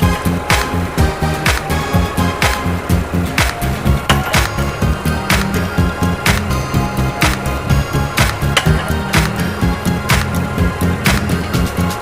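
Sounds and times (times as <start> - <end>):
bass line: 0.0 - 12.0.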